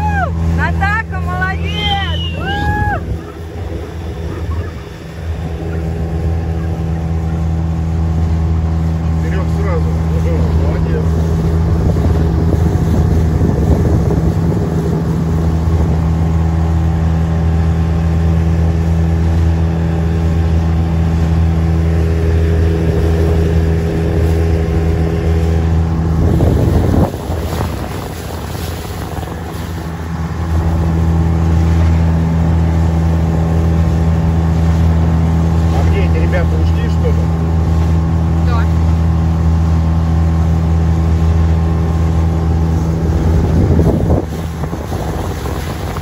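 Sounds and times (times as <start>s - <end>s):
outboard motor running: 0.0s - 46.0s
water and wind hiss: 0.0s - 46.0s.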